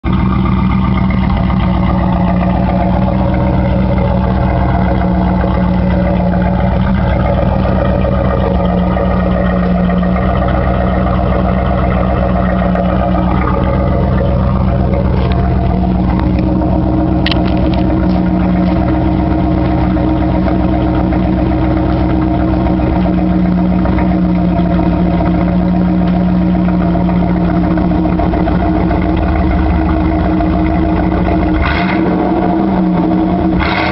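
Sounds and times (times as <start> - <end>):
loud car engine running: 0.0 - 33.9.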